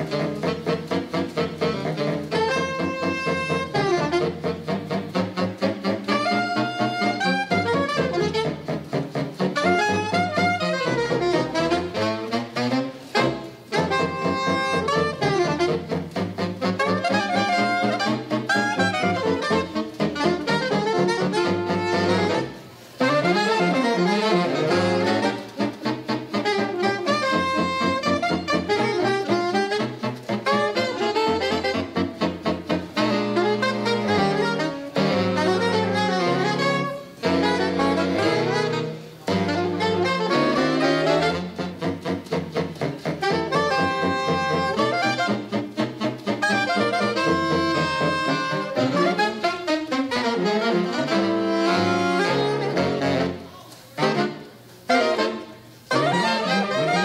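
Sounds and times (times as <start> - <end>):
big band playing jazz: 0.0 - 57.0
saxophone section: 0.0 - 57.0.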